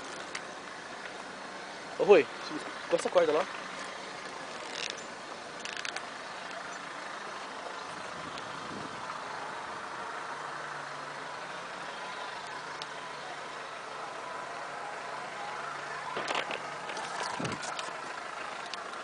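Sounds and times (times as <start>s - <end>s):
steady engine hum: 0.0s - 19.0s.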